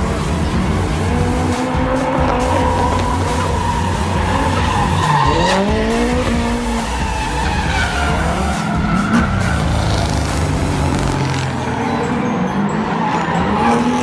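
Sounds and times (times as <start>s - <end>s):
car engine revving: 0.0s - 14.0s
tyres skidding on asphalt: 0.0s - 14.0s.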